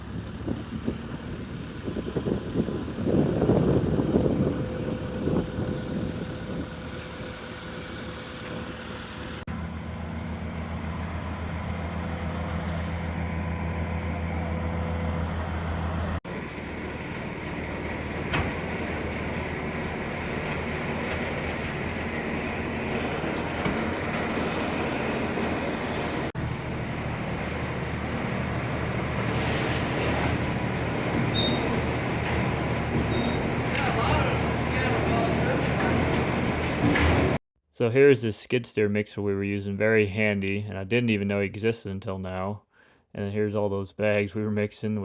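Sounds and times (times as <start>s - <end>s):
engine running: 0.0s - 37.4s.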